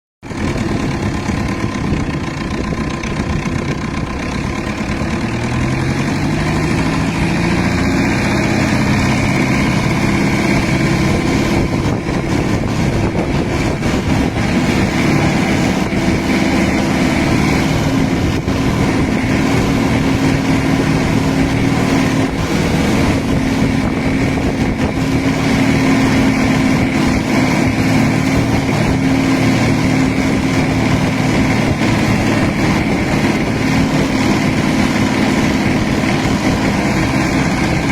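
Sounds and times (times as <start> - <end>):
boat engine running: 0.2 - 37.9.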